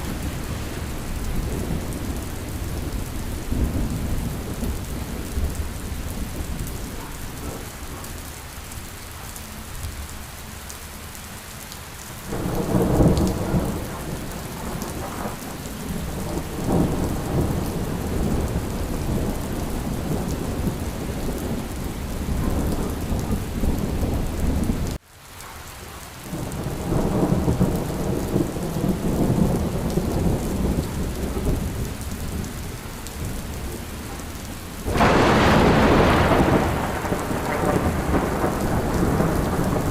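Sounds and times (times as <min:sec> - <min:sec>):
low rolling thunder: 0:00.0 - 0:08.1, 0:12.2 - 0:25.0, 0:26.3 - 0:39.9
steady rain: 0:00.0 - 0:39.9.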